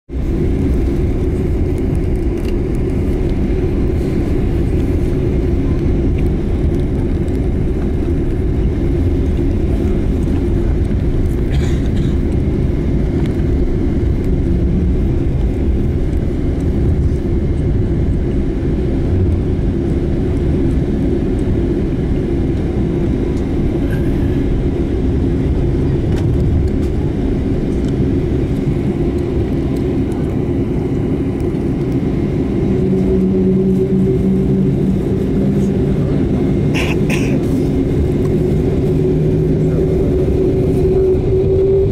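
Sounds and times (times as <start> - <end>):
jet cabin engine rumble: 0.1 - 41.9.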